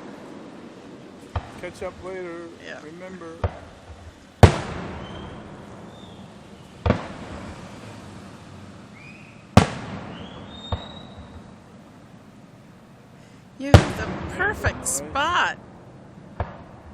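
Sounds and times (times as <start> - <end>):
fireworks booming: 0.0 - 16.9
rumble of fireworks: 0.0 - 16.9.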